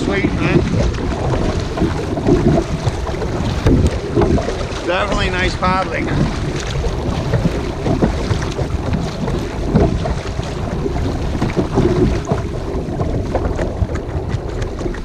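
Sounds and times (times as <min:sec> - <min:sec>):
paddle splashing in water: 0:00.0 - 0:15.0
wind on microphone: 0:00.0 - 0:15.0.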